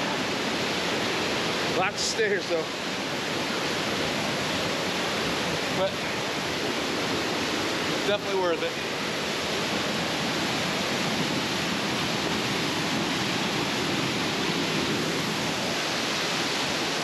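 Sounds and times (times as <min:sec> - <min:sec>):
water cascading over rocks: 0:00.0 - 0:17.0.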